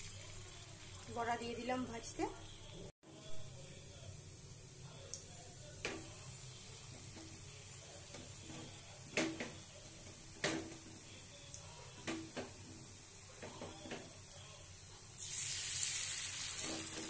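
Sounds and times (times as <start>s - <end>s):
fritters frying in oil: 0.0s - 2.6s, 4.1s - 17.0s.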